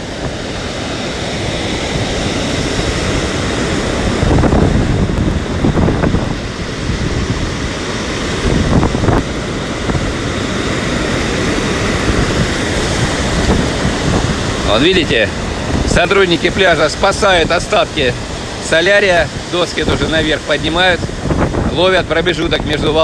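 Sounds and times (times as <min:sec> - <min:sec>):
surf breaking on pebble beach: 0:00.0 - 0:23.0
wind buffeting microphone: 0:00.0 - 0:23.0.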